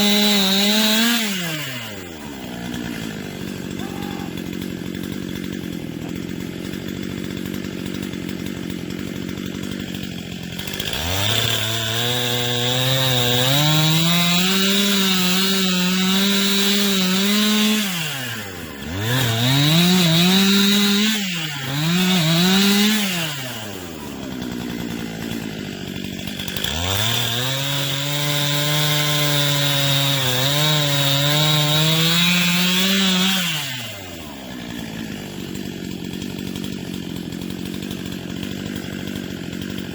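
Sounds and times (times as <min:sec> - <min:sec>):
chainsaw cutting at full throttle: 0:00.0 - 0:39.9
chainsaw idling: 0:00.0 - 0:39.9.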